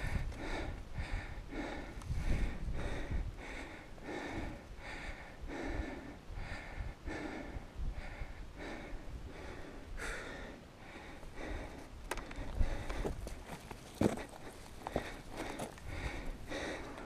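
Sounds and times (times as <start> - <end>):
person panting heavily: 0.0 - 17.0.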